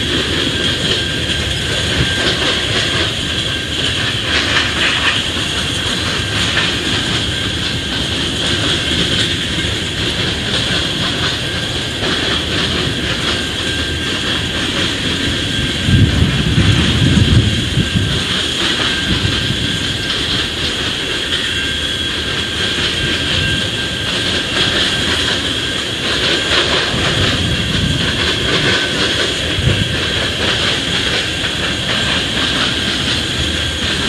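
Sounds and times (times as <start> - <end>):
freight train wheels rumbling on rail: 0.0 - 34.0.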